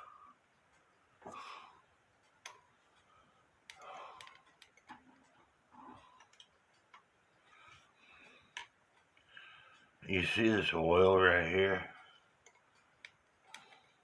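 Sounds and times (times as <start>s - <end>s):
clock parts clicking: 2.2s - 14.0s.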